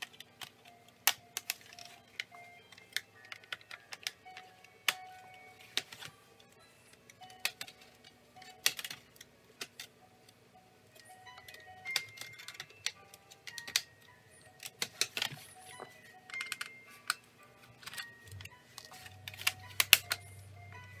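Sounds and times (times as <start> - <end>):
plastic clicks and snaps: 0.0 - 6.1, 7.0 - 10.0, 11.0 - 17.2, 17.8 - 20.3
quiet background music: 0.0 - 21.0.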